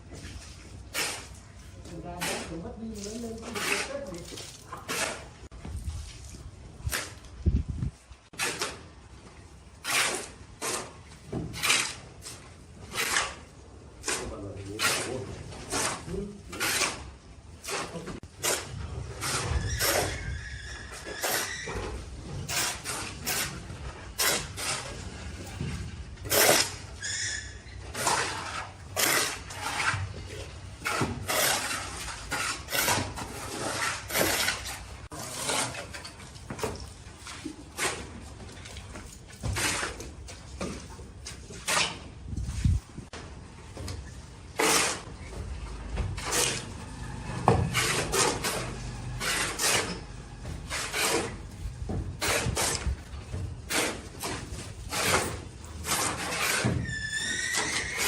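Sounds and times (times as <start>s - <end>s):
tools scraping mortar and tile: 0.0s - 7.4s, 8.1s - 58.0s.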